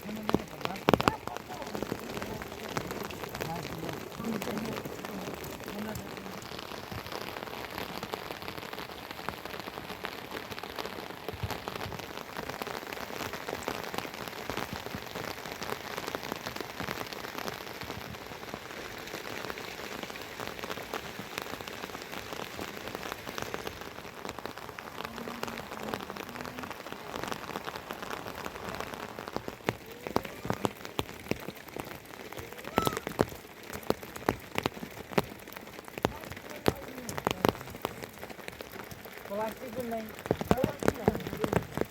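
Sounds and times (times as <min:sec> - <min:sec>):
heavy rain falling: 0:00.0 - 0:41.9
loud water drips: 0:00.0 - 0:41.9.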